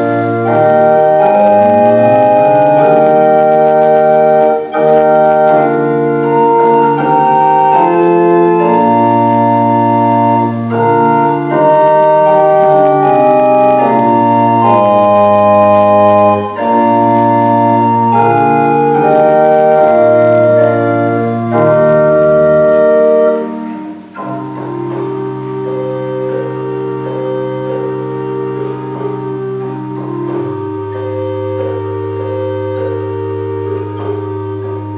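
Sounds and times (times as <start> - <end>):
organ playing held chords: 0.0 - 34.9.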